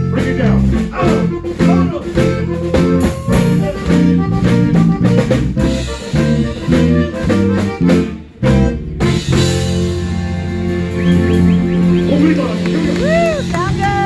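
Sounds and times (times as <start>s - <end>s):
funk band playing: 0.0s - 14.0s.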